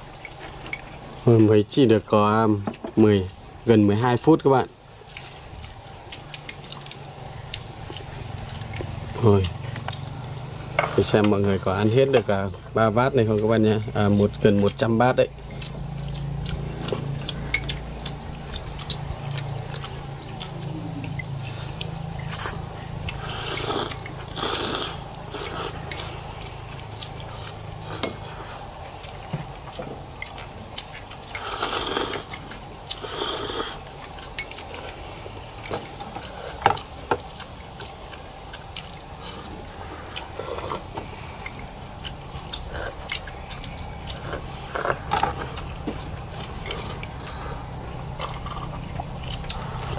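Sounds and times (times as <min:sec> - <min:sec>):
low steady hum: 0:00.0 - 0:49.9
noodles slurping: 0:05.0 - 0:49.9.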